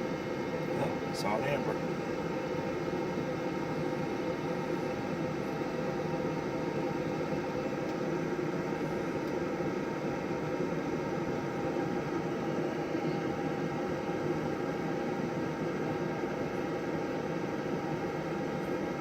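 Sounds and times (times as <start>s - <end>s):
grill fan whirring: 0.0s - 19.0s.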